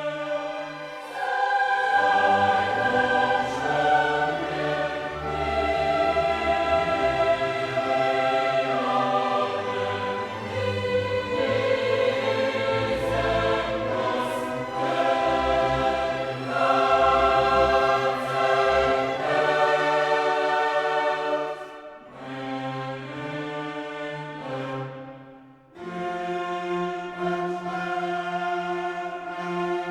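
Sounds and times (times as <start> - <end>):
choir singing with orchestra: 0.0 - 29.9.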